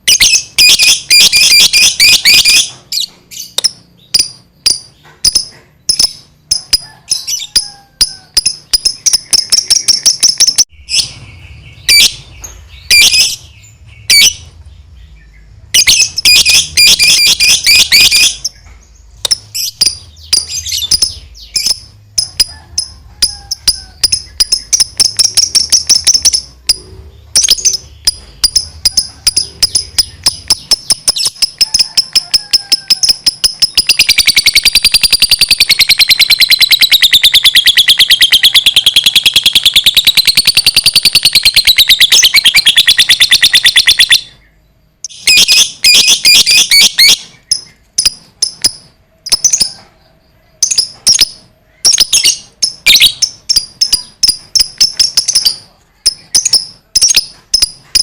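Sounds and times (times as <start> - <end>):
lovebird chattering and trilling: 0.0 - 58.0.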